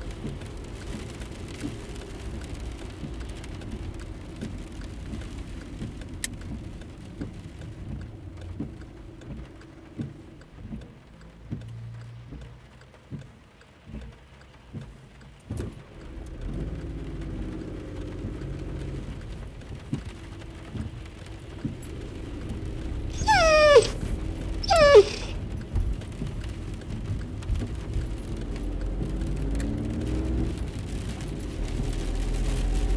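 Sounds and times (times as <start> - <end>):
car road and engine rumble: 0.0 - 32.9.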